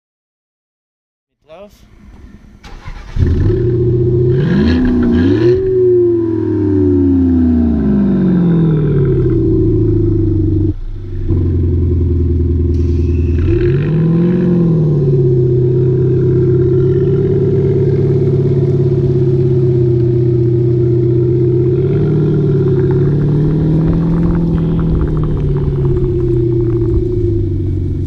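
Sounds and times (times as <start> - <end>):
car engine idling with low burble: 1.8 - 28.0
engine revving: 1.8 - 28.0.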